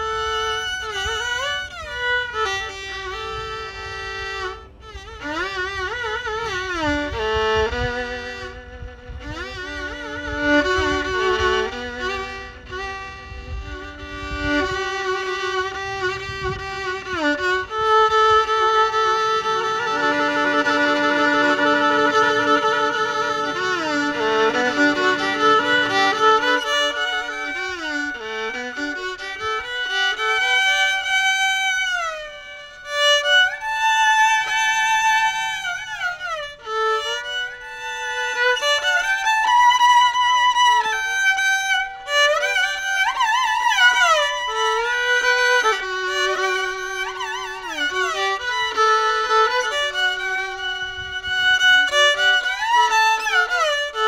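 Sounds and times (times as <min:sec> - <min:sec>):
low accompaniment: 0:00.0 - 0:54.0
violin melody with vibrato: 0:00.0 - 0:54.0.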